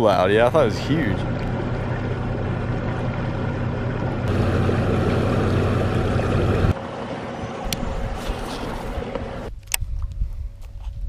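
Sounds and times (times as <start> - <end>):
outboard motor running: 0.0 - 9.4.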